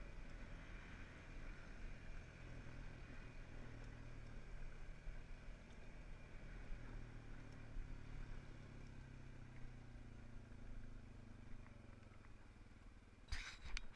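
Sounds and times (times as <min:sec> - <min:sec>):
dirt bike engine running: 0:00.0 - 0:13.3.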